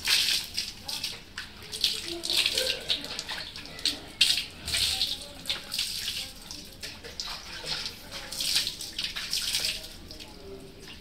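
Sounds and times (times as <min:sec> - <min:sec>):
water splashing on wet dog: 0:00.0 - 0:10.4.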